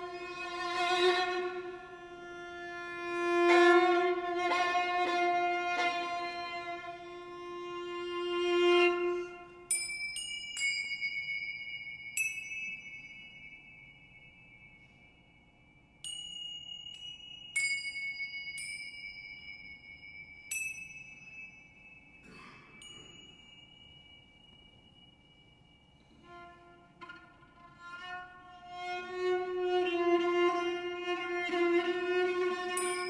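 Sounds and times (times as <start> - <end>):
finger cymbals ringing: 3.2 - 33.0.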